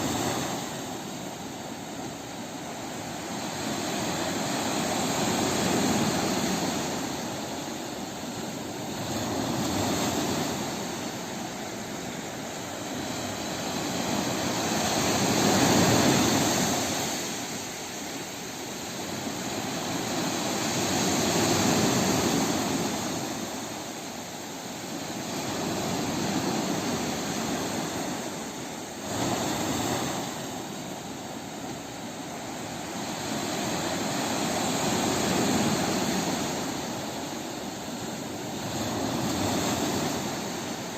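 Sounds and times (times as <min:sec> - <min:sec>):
sea waves surging: 0:00.0 - 0:40.9.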